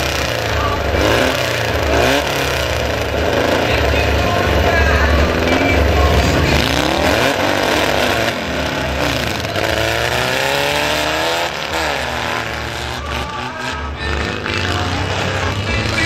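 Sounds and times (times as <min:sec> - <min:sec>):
buggy engines revving: 0:00.0 - 0:16.0.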